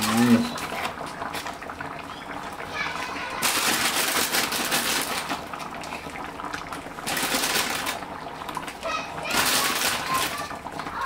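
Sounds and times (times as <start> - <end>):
stew bubbling and popping: 0.0 - 11.0.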